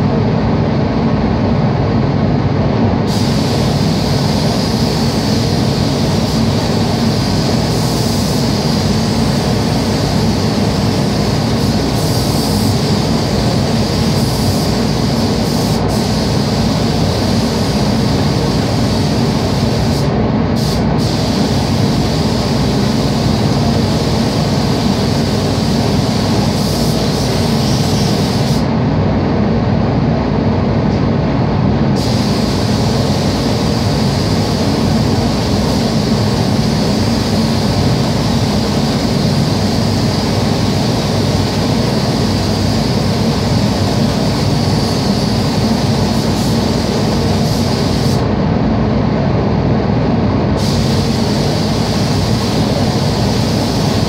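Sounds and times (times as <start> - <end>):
ventilation fans rushing: 0.0 - 54.0
spray gun hissing: 3.1 - 28.7, 32.0 - 48.3, 50.6 - 54.0.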